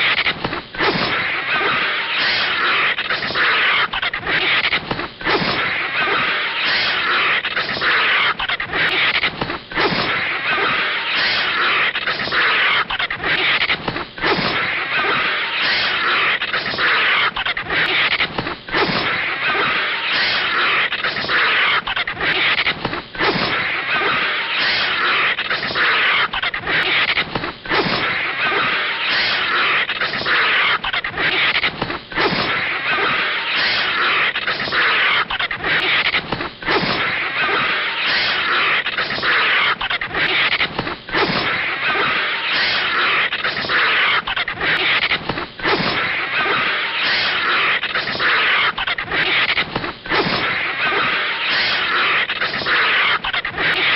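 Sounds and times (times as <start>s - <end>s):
harsh animated animal sound: 0.0s - 53.9s.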